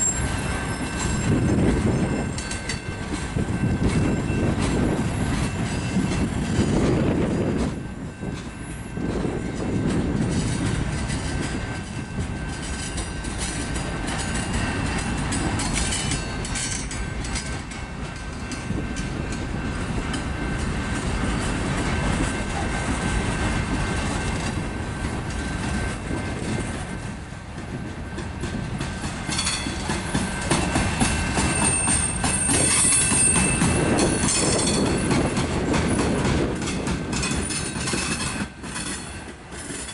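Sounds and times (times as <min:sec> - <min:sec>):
steel train wheels rumbling on rails: 0:00.0 - 0:39.9.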